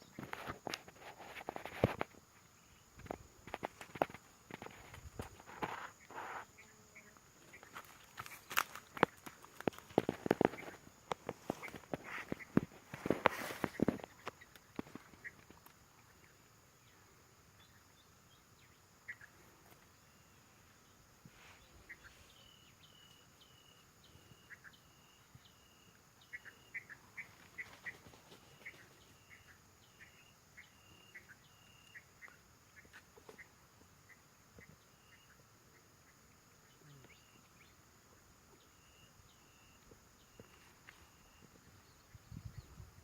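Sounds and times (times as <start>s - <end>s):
faint high bird calls: 2.7s - 42.9s.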